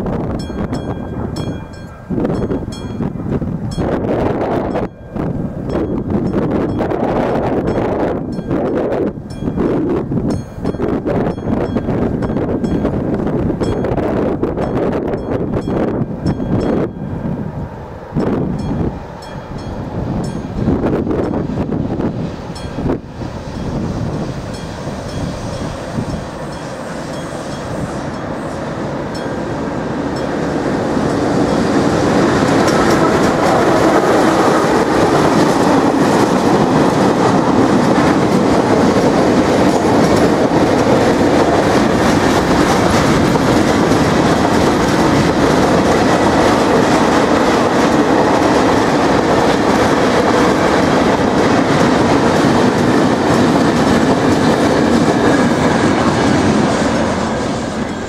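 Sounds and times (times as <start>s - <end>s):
freight train passing: 0.0s - 58.0s
wind on microphone: 0.0s - 58.0s.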